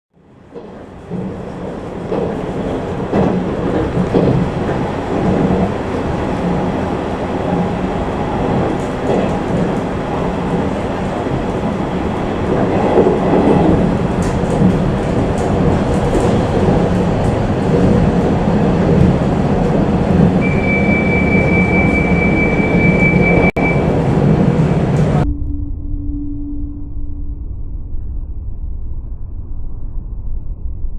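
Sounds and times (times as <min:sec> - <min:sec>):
rumble of wheels on rail: 0:00.2 - 0:25.3.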